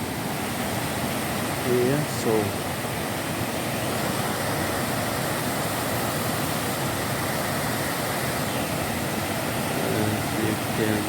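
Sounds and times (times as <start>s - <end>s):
waterfall roar: 0.0s - 11.0s.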